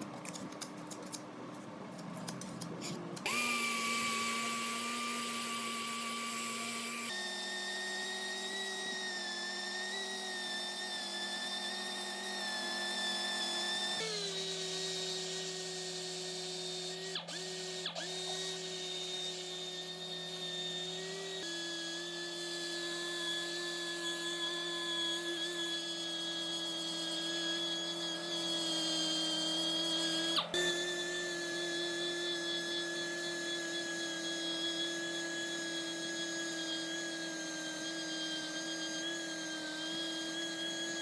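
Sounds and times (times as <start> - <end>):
power tool motor whining: 3.2 - 41.0.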